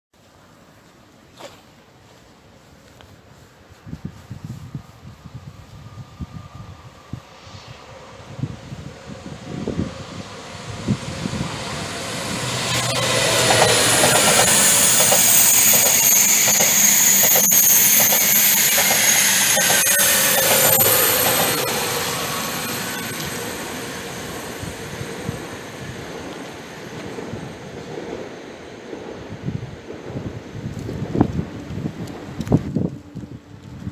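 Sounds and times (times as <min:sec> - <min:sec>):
high-speed train passing: 0:02.7 - 0:33.9.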